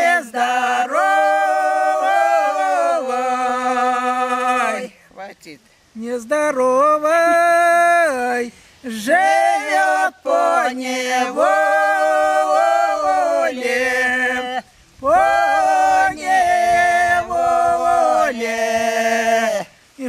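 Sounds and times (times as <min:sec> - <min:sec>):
women singing a cappella: 0:00.0 - 0:05.0, 0:07.2 - 0:19.8.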